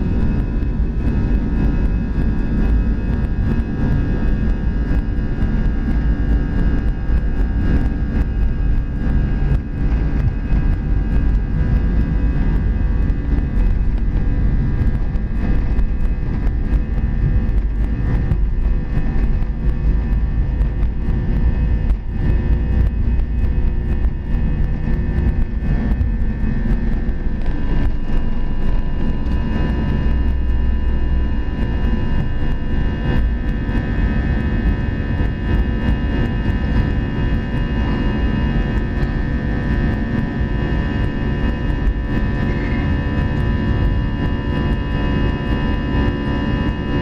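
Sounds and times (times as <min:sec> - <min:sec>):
jet engine rumble: 0:00.0 - 0:47.0
jet engine whine: 0:00.0 - 0:47.0.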